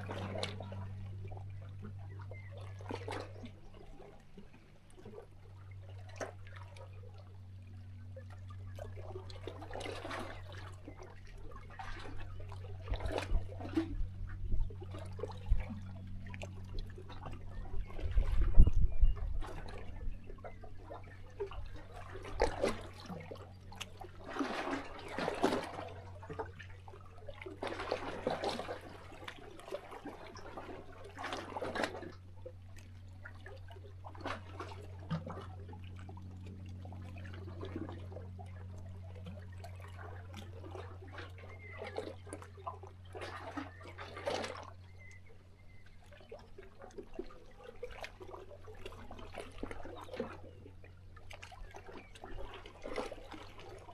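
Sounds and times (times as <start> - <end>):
waves lapping against rocks: 0.0 - 53.9.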